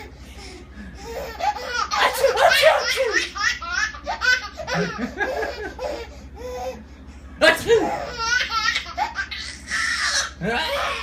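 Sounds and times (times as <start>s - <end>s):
baby belly laughing: 1.0s - 6.8s, 7.4s - 11.0s.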